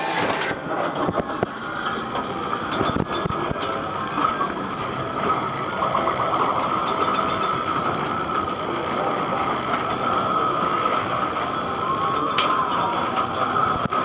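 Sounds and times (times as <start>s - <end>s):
steady ringing tone: 0.0s - 14.0s.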